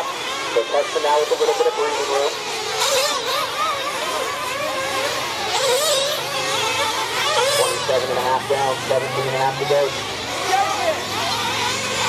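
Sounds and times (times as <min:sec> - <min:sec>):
rc cars motor whine: 0:00.0 - 0:12.0.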